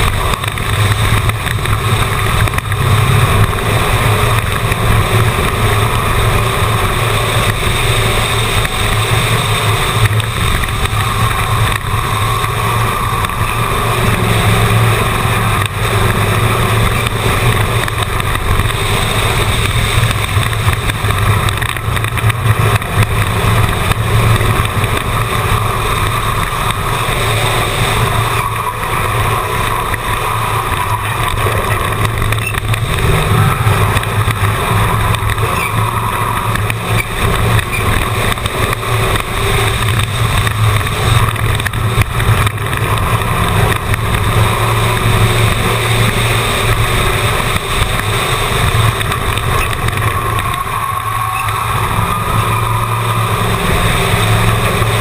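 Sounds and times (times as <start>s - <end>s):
race car engine running hard: 0.0s - 55.0s
wind and road noise: 0.0s - 55.0s.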